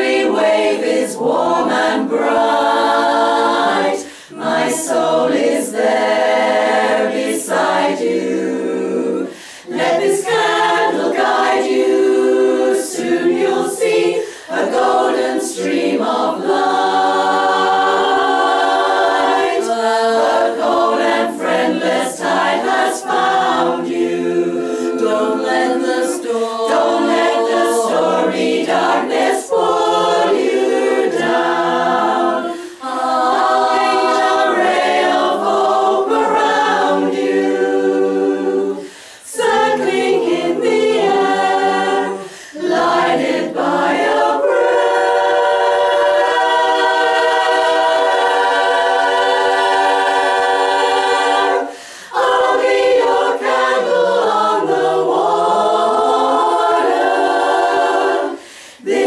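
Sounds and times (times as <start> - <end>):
women's chorus singing a cappella: 0.0 - 59.0.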